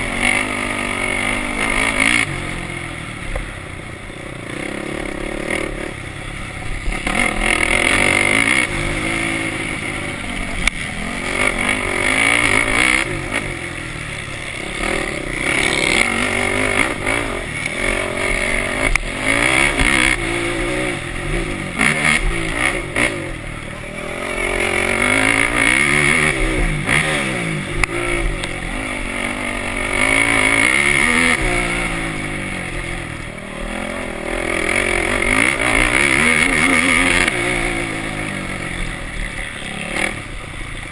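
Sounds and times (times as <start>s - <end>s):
quad engine revving: 0.0s - 3.6s, 4.3s - 40.9s.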